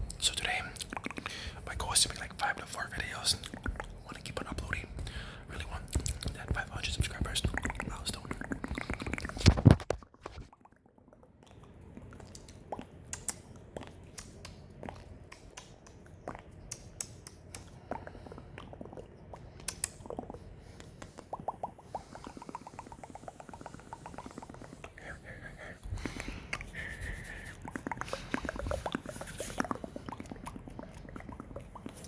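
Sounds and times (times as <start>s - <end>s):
wet mouth clicks and smacks: 0.1s - 24.9s, 26.0s - 32.0s.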